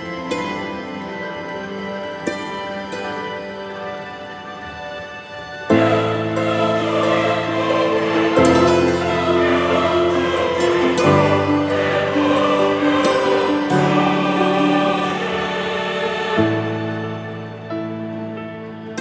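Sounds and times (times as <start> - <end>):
sustained orchestral chords: 0.0 - 19.0.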